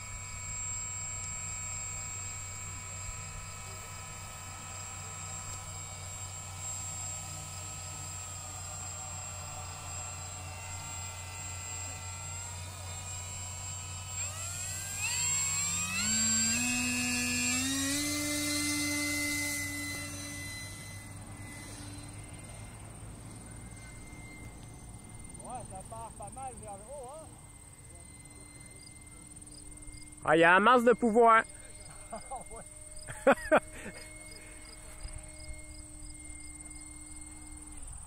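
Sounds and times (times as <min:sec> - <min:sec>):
electric motor and propeller whine: 0:00.0 - 0:38.0.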